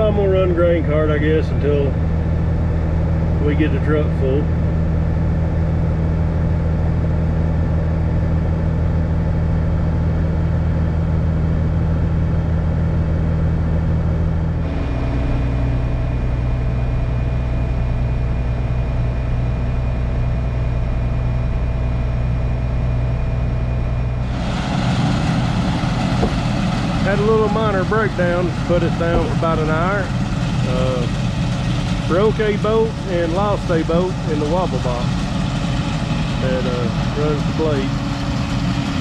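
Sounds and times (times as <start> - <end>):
engine low steady drone: 0.0 - 39.0
heavy diesel engine under load: 0.0 - 39.0.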